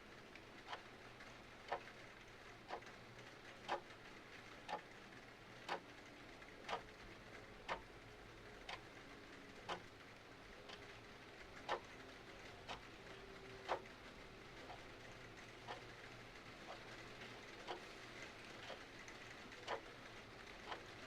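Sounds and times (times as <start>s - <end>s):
clock ticking: 0.3s - 8.0s, 8.6s - 9.0s, 9.6s - 10.0s, 10.6s - 21.0s.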